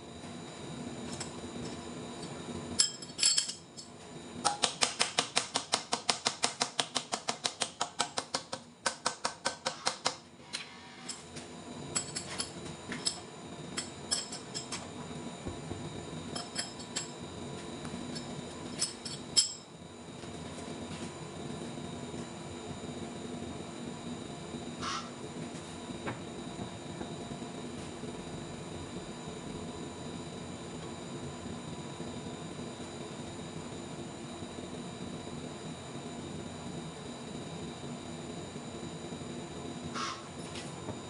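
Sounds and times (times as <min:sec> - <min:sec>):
steady machine hum: 0:00.0 - 0:41.0.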